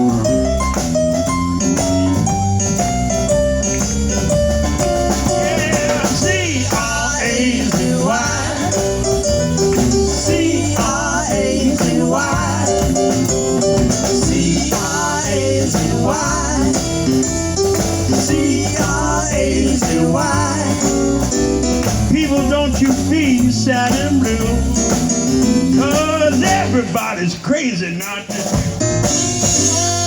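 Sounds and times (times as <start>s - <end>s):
bass and drum groove: 0.0s - 30.0s.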